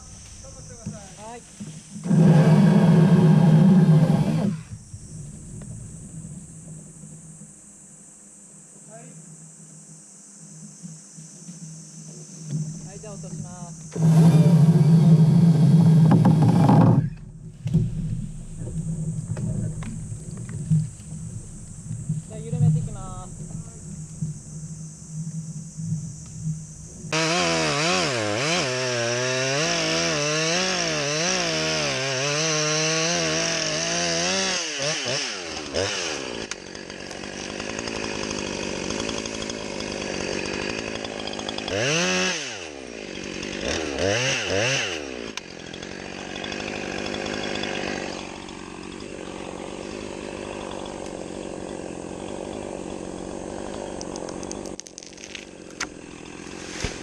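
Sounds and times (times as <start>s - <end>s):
chainsaw cutting: 0.0s - 7.8s, 11.0s - 57.0s.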